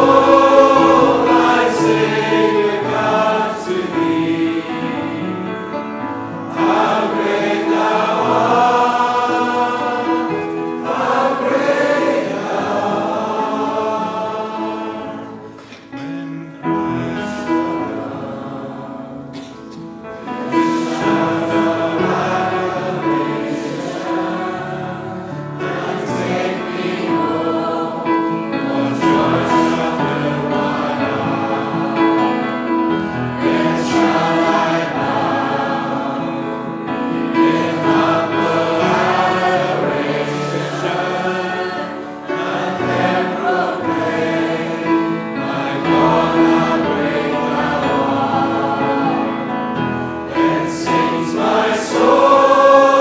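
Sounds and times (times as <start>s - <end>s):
group singing a hymn: 0.0s - 53.0s.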